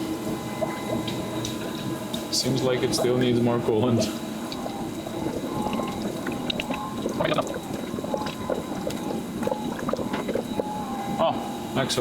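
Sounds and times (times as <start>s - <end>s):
coolant gurgling in a funnel: 0.0s - 12.0s.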